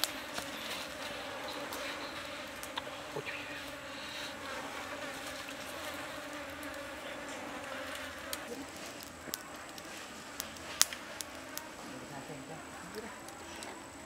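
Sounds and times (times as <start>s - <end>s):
insect buzzing: 0.0s - 14.0s.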